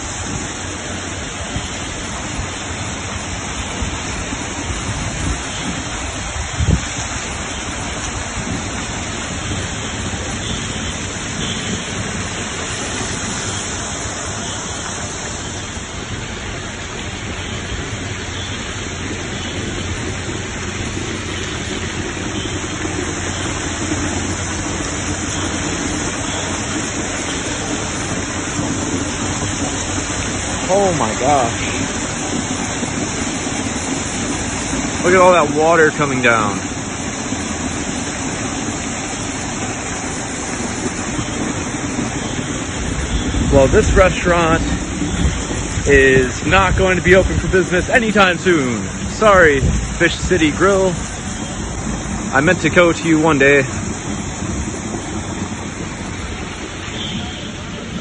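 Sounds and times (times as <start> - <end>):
falling water rushing: 0.0 - 58.0.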